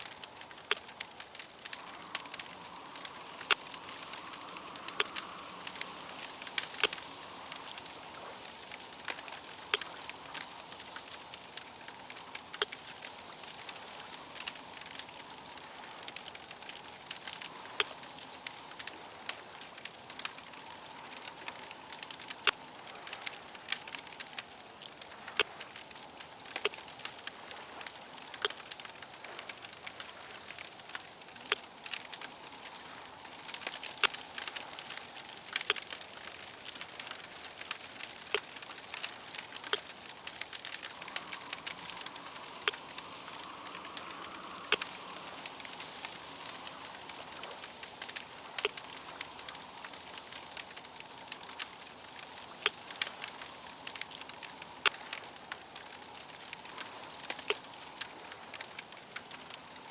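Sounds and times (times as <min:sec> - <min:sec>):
soft hiss: 0:00.0 - 0:59.9
wood fire crackling and popping: 0:00.0 - 0:59.9.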